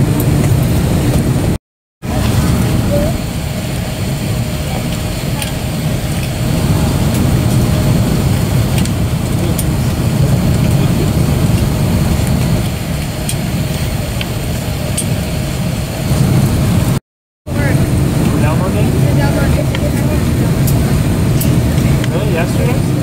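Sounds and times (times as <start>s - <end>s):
cabin ventilation rumble: 0.0s - 23.0s.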